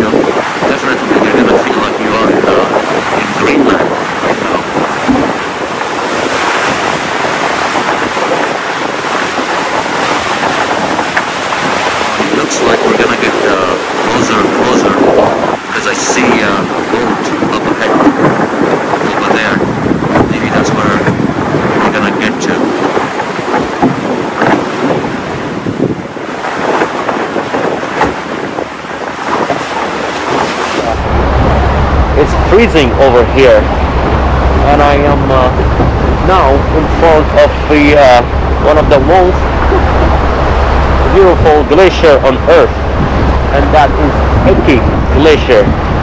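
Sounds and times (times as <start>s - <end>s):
sea water rushing: 0.0s - 46.0s
wind on microphone: 0.0s - 46.0s.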